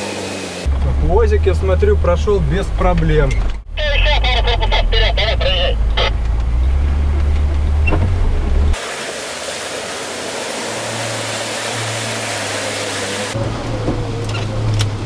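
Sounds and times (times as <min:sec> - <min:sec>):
engine low rumble: 0:00.0 - 0:08.8, 0:09.7 - 0:15.0.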